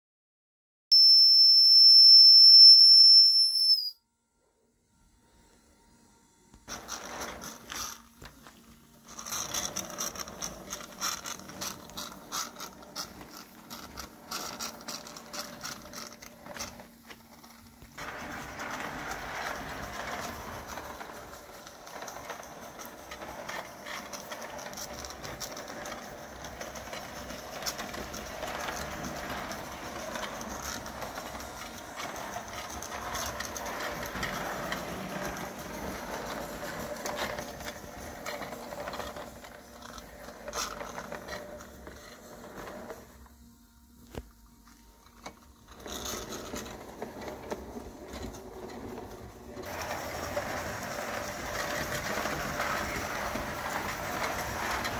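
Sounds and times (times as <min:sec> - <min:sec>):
toy steam locomotive clattering: 0:06.6 - 0:43.4, 0:45.0 - 0:54.9.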